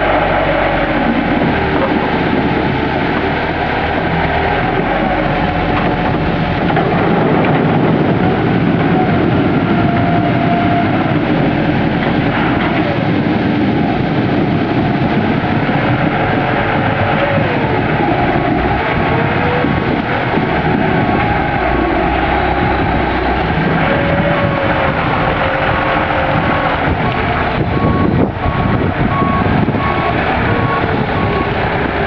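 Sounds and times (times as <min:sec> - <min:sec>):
forklift engine running: 0:00.0 - 0:32.0
hydraulics whining: 0:00.0 - 0:32.0.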